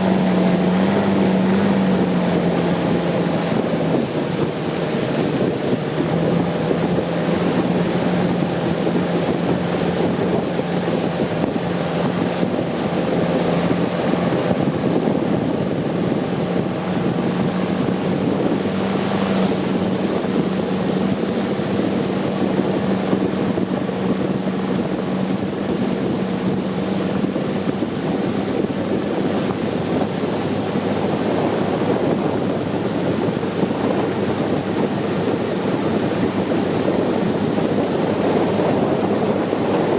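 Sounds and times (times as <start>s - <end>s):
boat engine running: 0.0s - 39.9s
rushing water: 0.0s - 39.9s
wind buffeting microphone: 0.0s - 39.9s.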